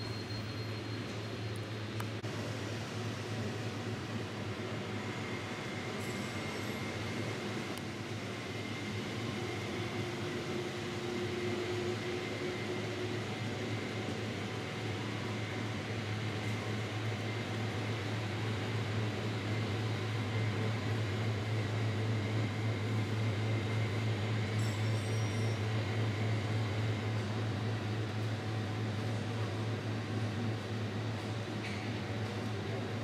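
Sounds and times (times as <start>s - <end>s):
faint high whine: 0.0s - 31.9s
low mechanical hum: 0.0s - 33.0s.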